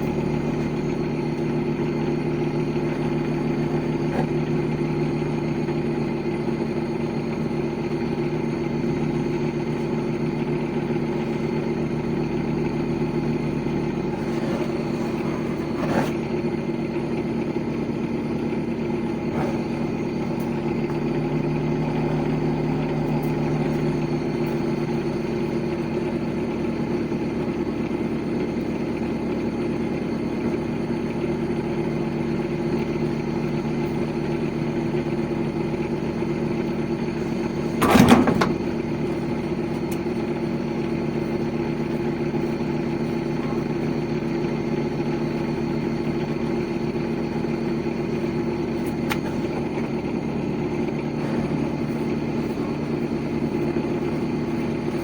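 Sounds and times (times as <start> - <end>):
machinery drone: 0.0 - 55.0.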